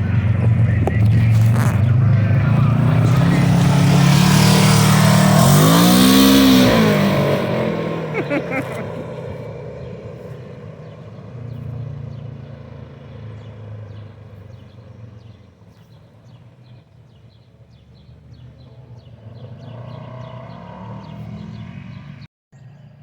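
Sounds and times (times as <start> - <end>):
off-road vehicle engine running: 0.0 - 22.3.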